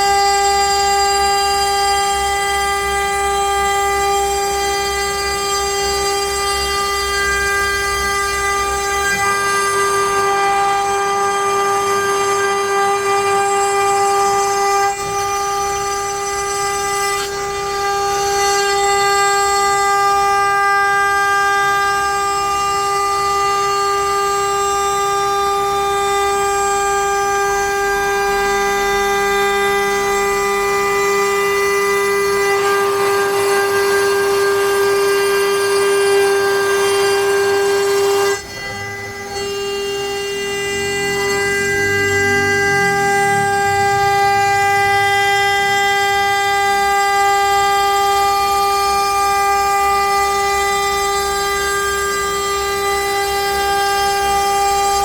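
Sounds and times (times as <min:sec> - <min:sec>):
router spindle high whine: 0:00.0 - 0:55.0.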